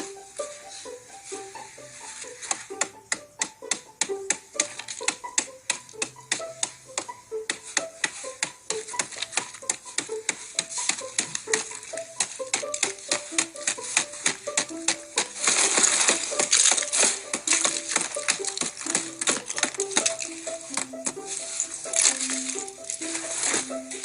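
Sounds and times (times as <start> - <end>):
icy twigs clicking and tinkling: 1.6 - 24.0.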